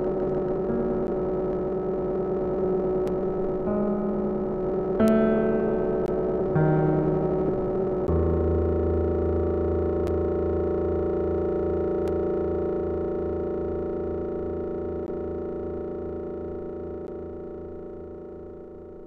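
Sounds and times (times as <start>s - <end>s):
held electronic chord: 0.0s - 19.0s.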